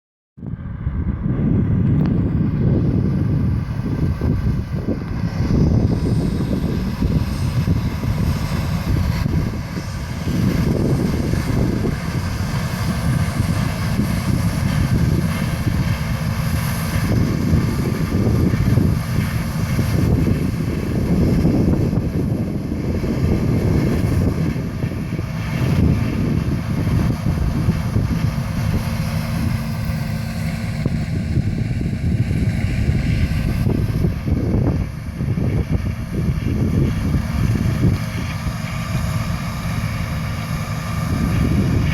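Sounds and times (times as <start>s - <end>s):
combine harvester engine drone: 0.4s - 41.9s.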